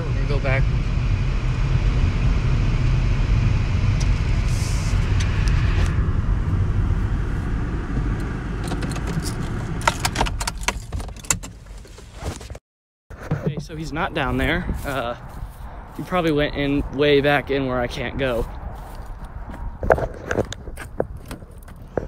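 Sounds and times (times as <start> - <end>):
car engine and road rumble: 0.0 - 12.6, 13.2 - 22.0.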